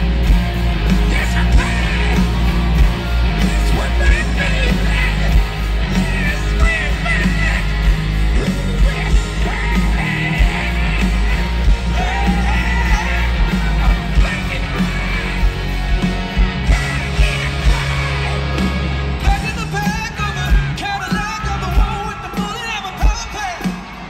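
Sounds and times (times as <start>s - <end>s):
electric guitars: 0.0s - 24.0s
keyboards: 0.0s - 24.0s
live rock band: 0.0s - 24.0s.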